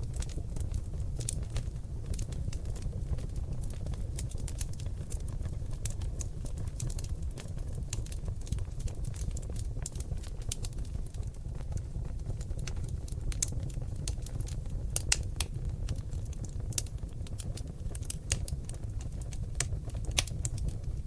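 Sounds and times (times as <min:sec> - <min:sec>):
logs crackling and popping: 0:00.0 - 0:21.0
low rumble of flame: 0:00.0 - 0:21.0.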